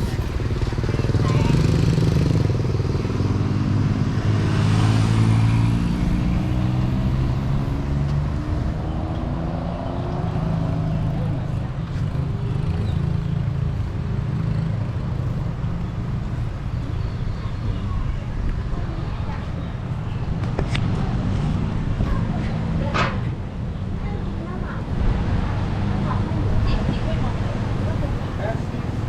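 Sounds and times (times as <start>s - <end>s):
vehicles passing close by: 0.0s - 29.0s.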